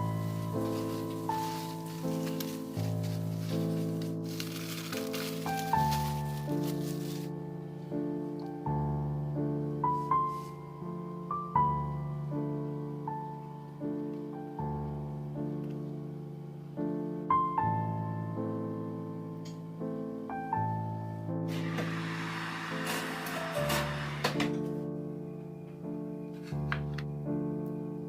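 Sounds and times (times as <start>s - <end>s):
gentle solo piano music: 0.0s - 28.0s.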